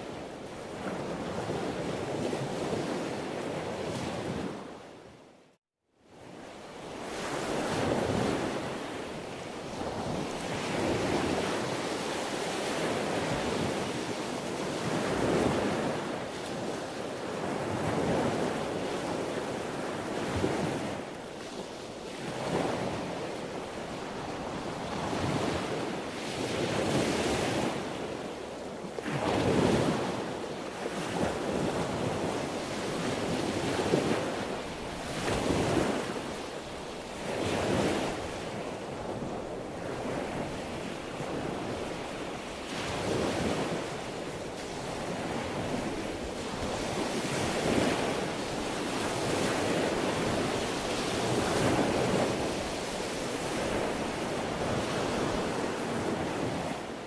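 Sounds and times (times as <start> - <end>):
sea waves breaking on shore: 0.0 - 5.2, 6.2 - 57.0.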